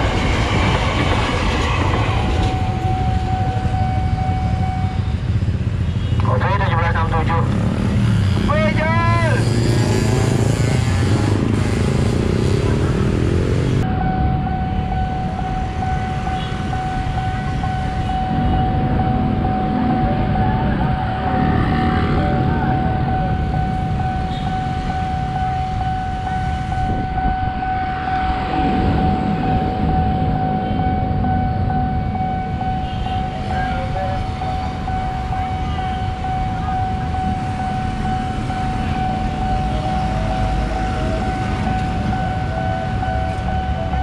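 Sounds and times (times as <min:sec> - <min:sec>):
level-crossing alarm tone: 0:00.0 - 0:07.6, 0:12.2 - 0:44.0.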